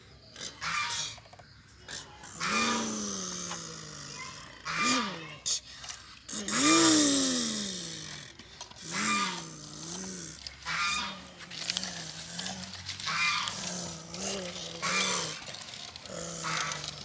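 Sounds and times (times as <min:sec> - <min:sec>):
person imitating truck engine: 0:01.9 - 0:05.7, 0:06.3 - 0:17.0.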